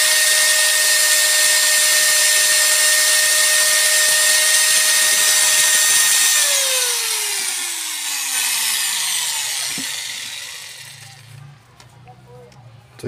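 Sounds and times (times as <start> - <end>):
angle grinder whining: 0.0 - 11.6.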